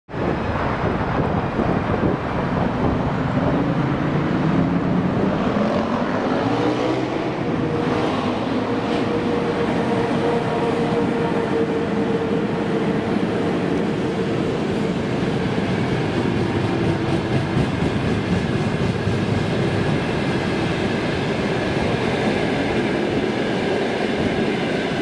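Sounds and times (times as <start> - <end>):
train wheels rumbling on rails: 0.1 - 25.0
locomotive whine: 2.6 - 24.6.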